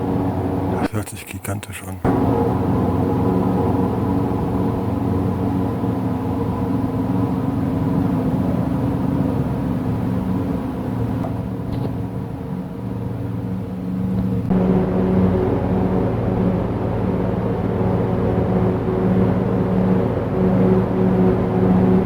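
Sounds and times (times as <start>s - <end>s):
steady low drone: 0.0s - 22.0s.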